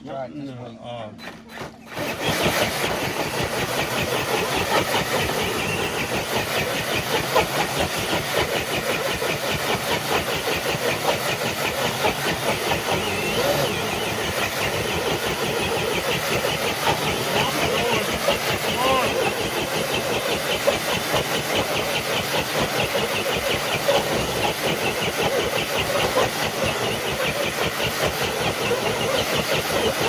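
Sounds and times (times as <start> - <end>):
rc truck motor rattling: 1.1 - 30.0.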